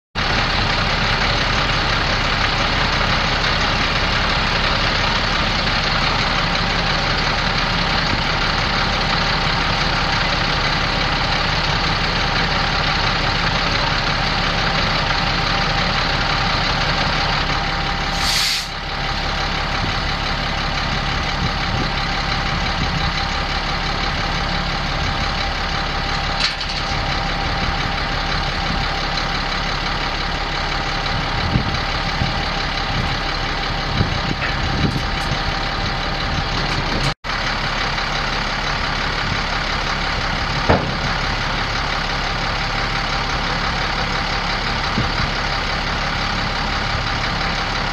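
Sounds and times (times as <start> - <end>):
diesel truck idling: 0.2 - 47.9.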